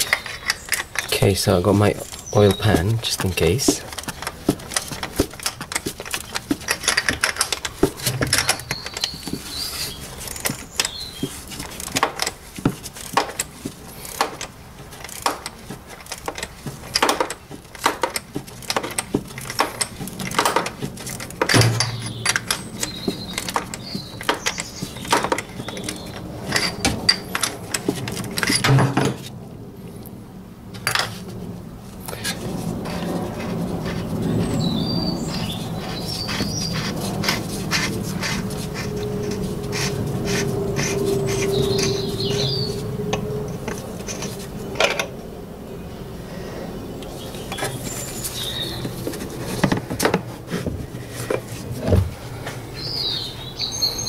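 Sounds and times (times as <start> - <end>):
dull rubbing and rustling: 0.0 - 28.4, 32.2 - 42.7, 47.5 - 52.6.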